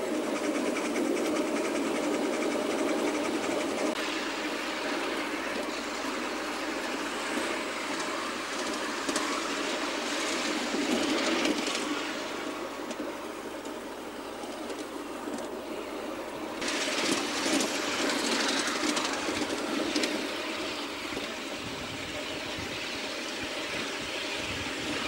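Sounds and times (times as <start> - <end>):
miniature steam locomotive running: 0.0 - 25.0.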